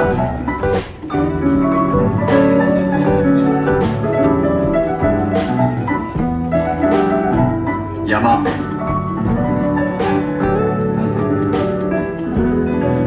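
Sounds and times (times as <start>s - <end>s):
sustained keyboard chords: 0.0s - 13.0s.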